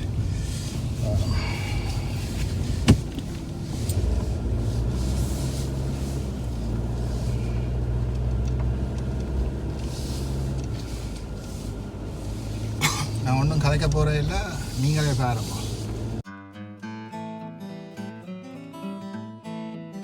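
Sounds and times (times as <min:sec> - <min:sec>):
vehicle engine rumbling: 0:00.0 - 0:16.2
road and tyre noise: 0:00.0 - 0:16.3.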